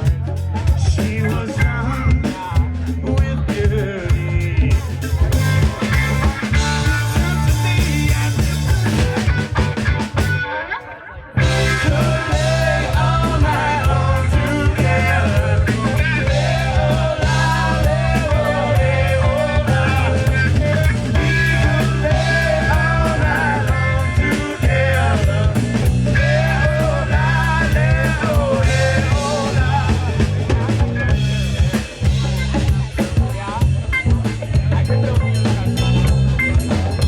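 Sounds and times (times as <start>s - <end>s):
drum kit: 0.0s - 10.5s, 11.4s - 37.0s
electric bass: 0.0s - 37.0s
electric guitar lead line: 0.0s - 37.0s.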